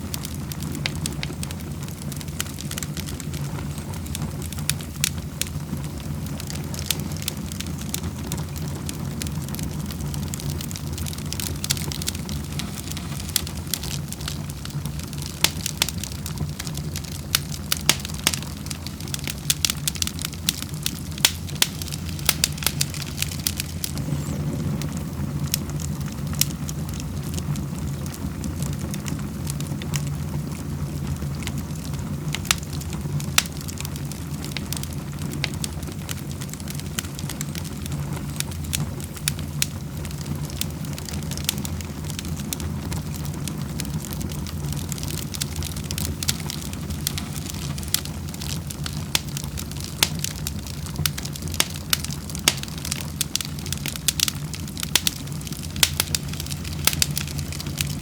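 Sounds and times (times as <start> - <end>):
fire crackling and popping: 0.0 - 58.0
fire flames rumbling: 0.0 - 58.0.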